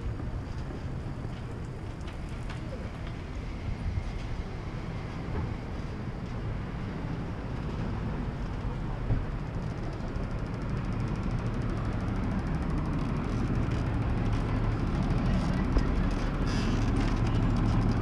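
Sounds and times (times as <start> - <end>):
low rumble of street traffic: 0.0 - 18.0.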